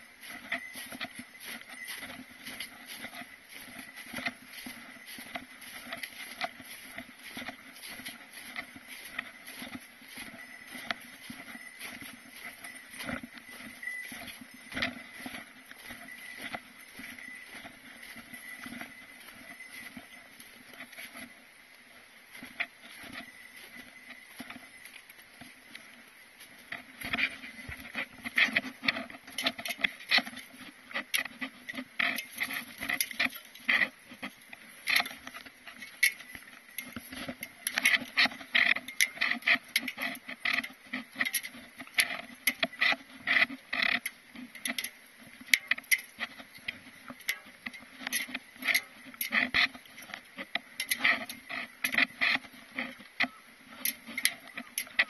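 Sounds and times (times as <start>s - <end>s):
boots crunching in snow: 0.0s - 55.0s.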